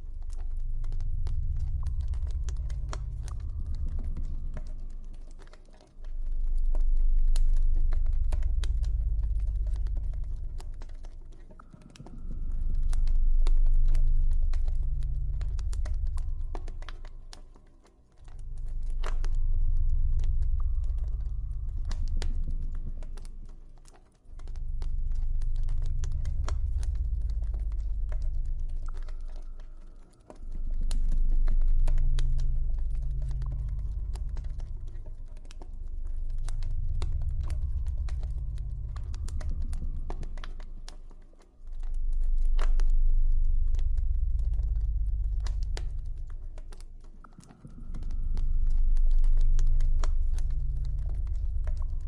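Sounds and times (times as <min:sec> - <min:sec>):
deep ambient drone: 0:00.0 - 0:52.0.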